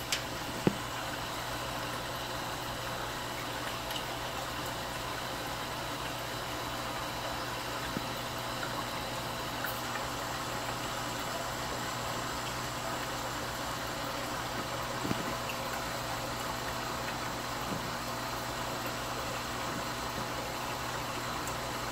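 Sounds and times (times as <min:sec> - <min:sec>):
aquarium equipment humming: 0:00.0 - 0:21.9.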